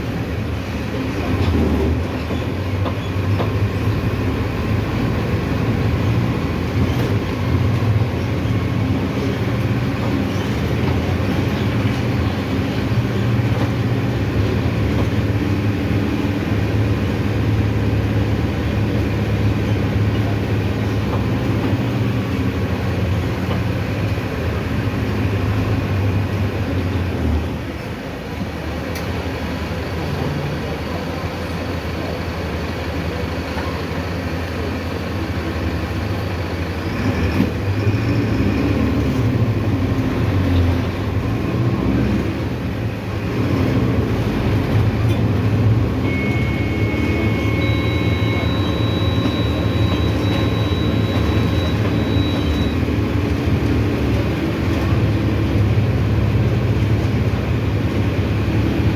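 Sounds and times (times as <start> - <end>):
bus diesel engine running: 0.0 - 58.9
road and body noise: 0.0 - 58.9.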